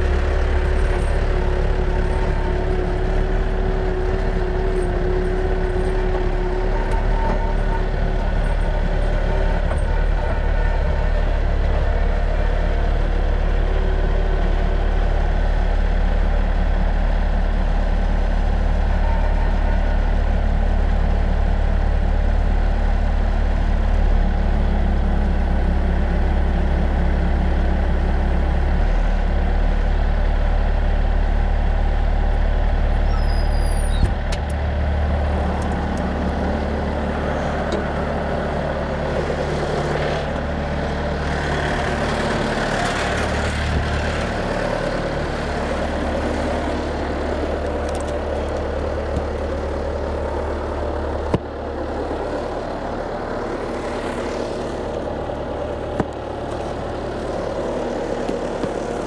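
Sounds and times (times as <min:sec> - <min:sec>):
diesel loader engine running: 0:00.0 - 0:59.0.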